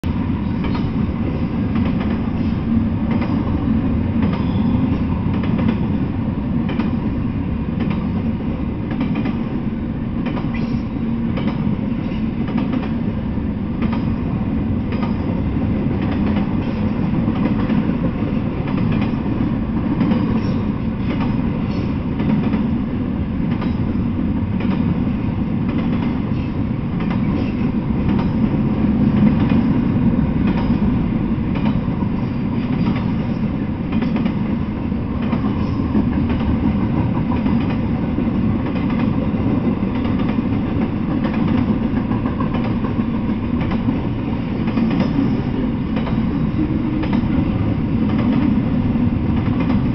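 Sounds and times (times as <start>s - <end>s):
freight train wheels rumbling on rails: 0.0s - 49.9s.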